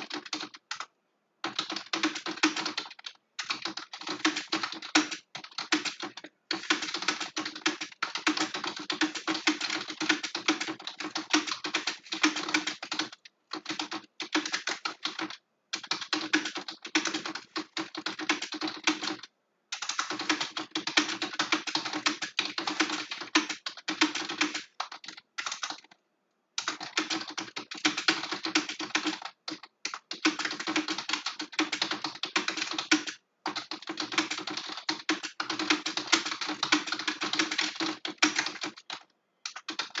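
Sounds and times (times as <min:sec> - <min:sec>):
fast typing on a keyboard: 0:00.0 - 0:26.0, 0:26.6 - 0:40.0.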